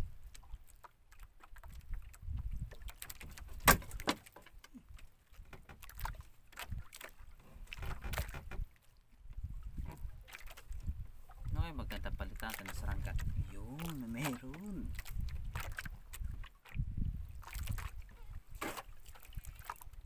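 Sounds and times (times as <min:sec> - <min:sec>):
water lapping against boat hull: 0:00.0 - 0:20.0
knocks and clicks in boat: 0:00.4 - 0:16.8, 0:17.4 - 0:20.0.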